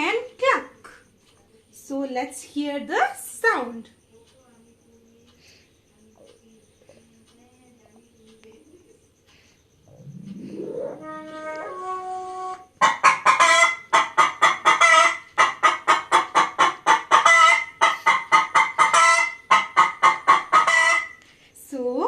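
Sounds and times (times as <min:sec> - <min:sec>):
hen clucking: 0:02.6 - 0:21.2.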